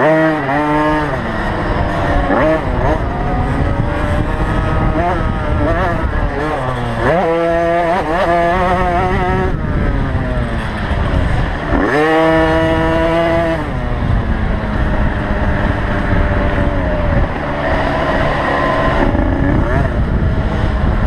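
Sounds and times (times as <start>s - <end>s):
drone of other bikes: 0.0s - 21.0s
motocross bike engine revving: 0.0s - 21.0s.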